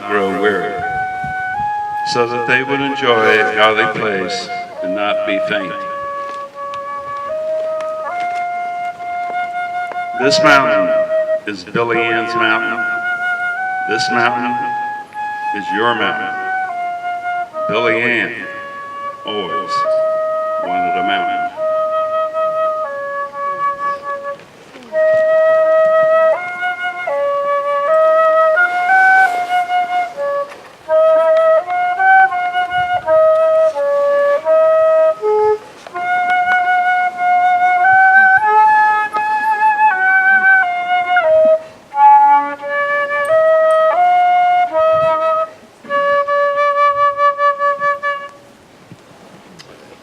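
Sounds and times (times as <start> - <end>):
solo flute melody: 0.0 - 48.9.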